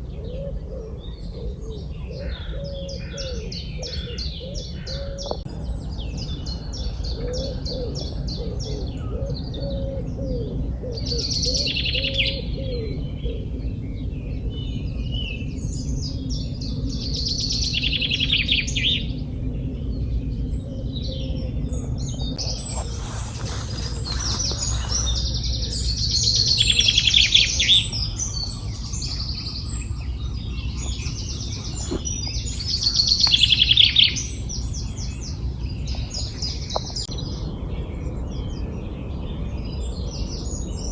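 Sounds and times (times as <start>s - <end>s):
songbirds chirping: 0.0s - 40.9s
steady low rumble: 0.0s - 40.9s.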